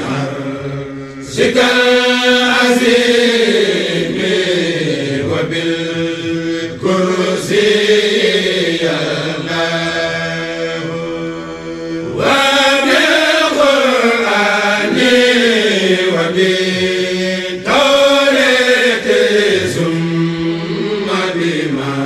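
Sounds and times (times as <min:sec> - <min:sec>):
group chanting in unison: 0:00.0 - 0:22.0.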